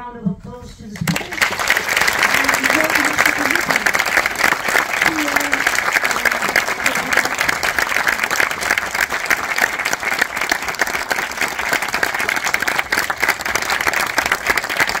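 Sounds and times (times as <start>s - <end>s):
audience applauding: 1.0s - 15.0s.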